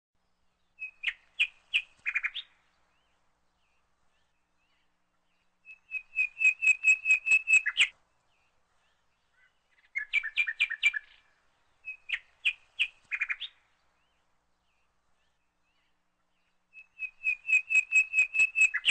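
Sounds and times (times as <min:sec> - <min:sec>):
songbird singing: 0:00.2 - 0:18.9.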